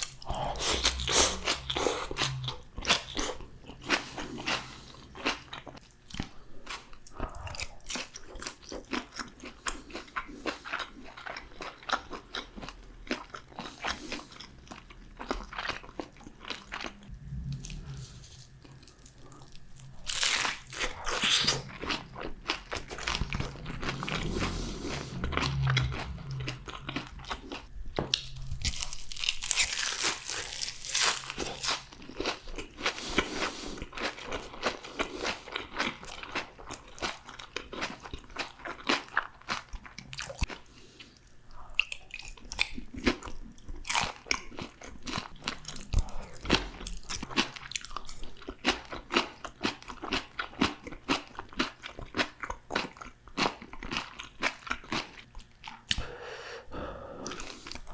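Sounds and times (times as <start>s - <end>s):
chewing crispy fried food: 0.0s - 56.1s, 57.2s - 57.9s.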